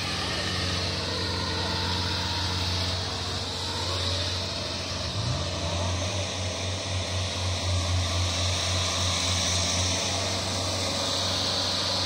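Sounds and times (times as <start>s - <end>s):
combine harvester diesel engine: 0.0s - 12.0s.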